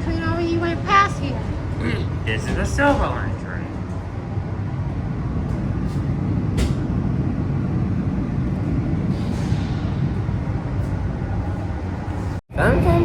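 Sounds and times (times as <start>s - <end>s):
train car rumbling: 0.0s - 13.0s.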